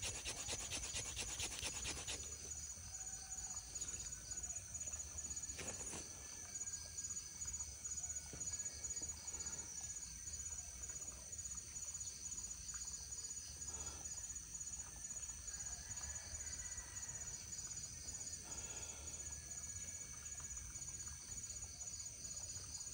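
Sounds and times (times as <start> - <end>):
insects chirping: 0.0 - 22.9.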